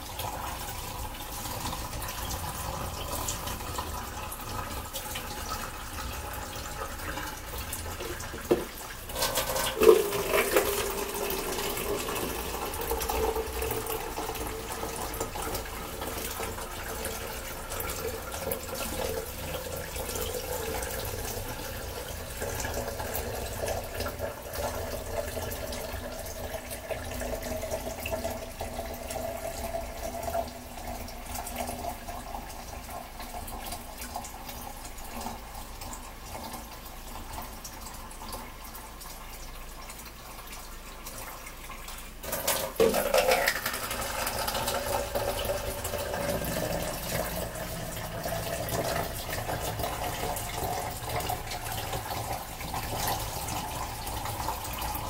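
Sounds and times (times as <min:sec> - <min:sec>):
faucet running into metal sink: 0:00.0 - 0:55.0.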